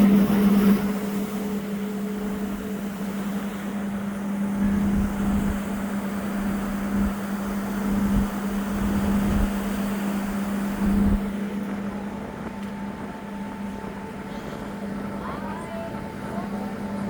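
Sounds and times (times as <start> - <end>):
ferry engines humming: 0.0 - 17.0.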